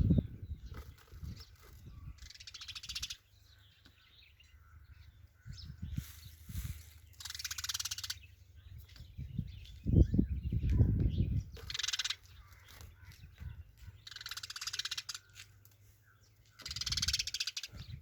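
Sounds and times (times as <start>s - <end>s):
sparrow chattering calls: 0.0s - 18.0s.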